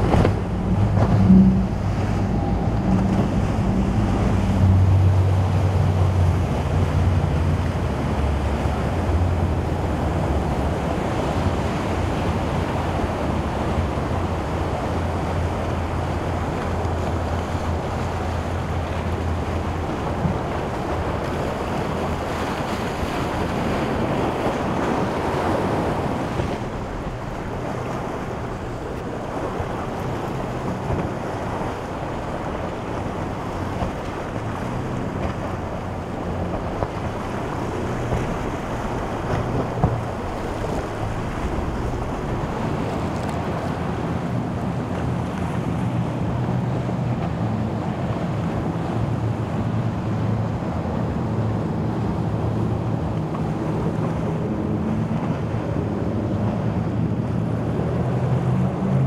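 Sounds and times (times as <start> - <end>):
boat engine humming: 0.0 - 59.0
waves breaking: 0.0 - 59.0
wind buffeting microphone: 0.0 - 59.0.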